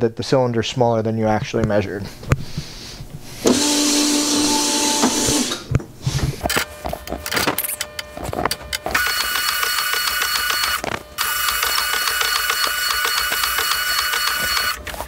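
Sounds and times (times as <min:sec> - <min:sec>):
honing machine humming and hissing: 0:02.0 - 0:15.0.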